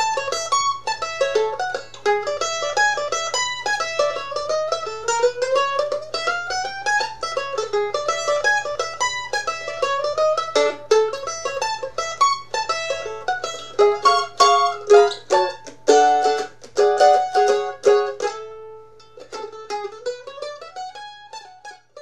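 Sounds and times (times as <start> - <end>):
faint low hum: 0.0 - 22.0
mandolin rag tune: 0.0 - 22.0.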